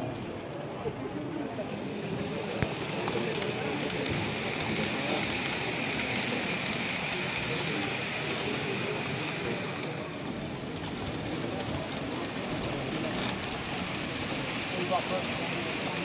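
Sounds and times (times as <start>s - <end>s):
indistinct crowd chatter: 0.0s - 16.0s
model train rattling past: 1.3s - 16.0s.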